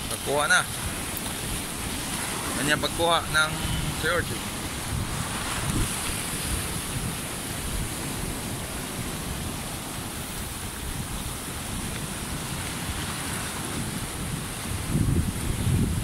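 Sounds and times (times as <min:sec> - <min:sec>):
surf breaking over rocks: 0:00.0 - 0:16.0.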